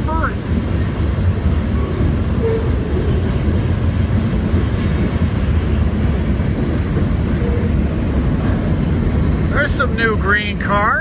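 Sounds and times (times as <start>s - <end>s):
freight train cars rolling: 0.0s - 11.0s.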